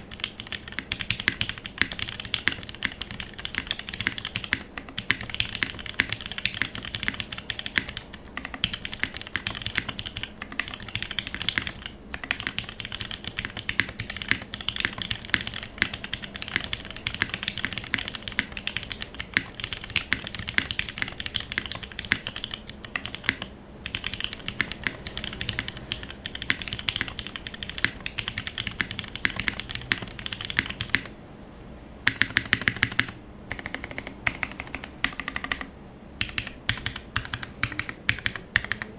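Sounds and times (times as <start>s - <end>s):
mechanical keyboard typing: 0.0s - 31.1s, 32.0s - 38.9s.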